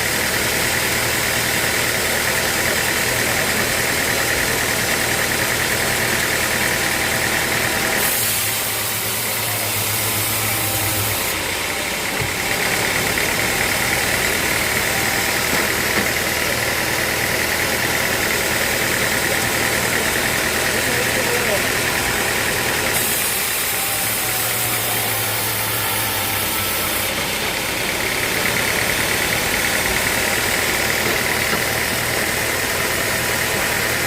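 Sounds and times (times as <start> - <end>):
sawmill machinery whining: 0.0 - 34.0.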